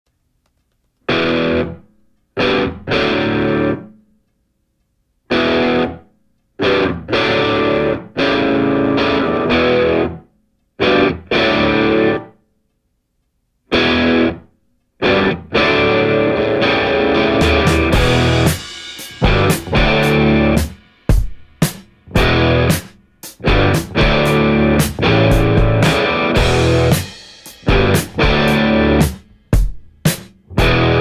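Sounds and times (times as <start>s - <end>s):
distorted electric guitar chords: 1.1s - 3.9s, 5.3s - 6.0s, 6.6s - 10.2s, 10.8s - 12.4s, 13.7s - 29.7s, 30.5s - 31.0s.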